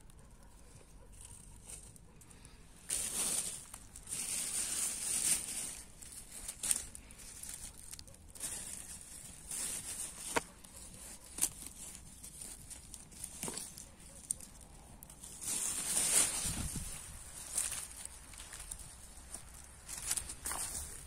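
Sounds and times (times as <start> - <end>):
rustling and crinkling handling noise: 0.0 - 21.0.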